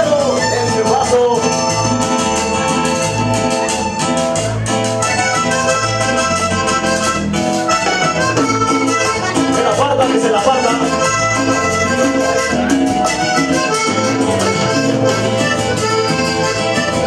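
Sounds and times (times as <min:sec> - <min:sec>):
accordion melody: 0:00.0 - 0:17.0
bass line: 0:00.0 - 0:17.0
percussion beat: 0:00.0 - 0:17.0.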